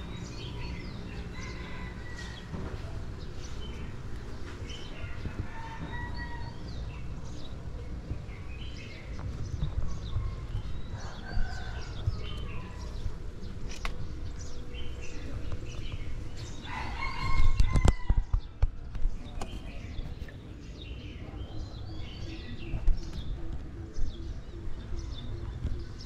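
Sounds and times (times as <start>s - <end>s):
handling and wind rumble: 0.0s - 21.0s
birds chirping: 0.0s - 26.0s.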